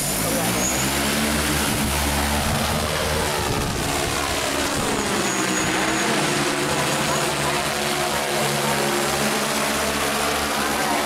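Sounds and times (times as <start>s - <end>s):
downwash blowing across ground: 0.0s - 11.0s
drone propellers whirring: 0.0s - 11.0s.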